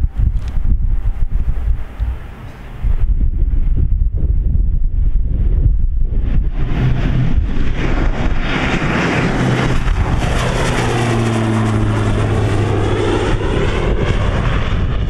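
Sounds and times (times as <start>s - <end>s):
turboprop airplane drone: 0.0s - 15.0s.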